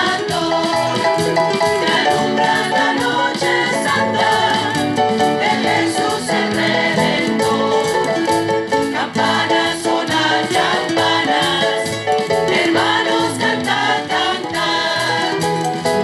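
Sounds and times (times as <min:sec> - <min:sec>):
church choir singing: 0:00.0 - 0:16.0
instrumental accompaniment: 0:00.0 - 0:16.0.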